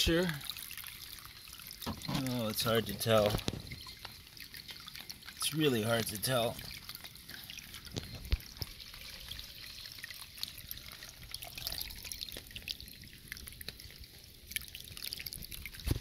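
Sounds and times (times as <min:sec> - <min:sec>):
water trickling from drain pipe: 0:00.0 - 0:16.0.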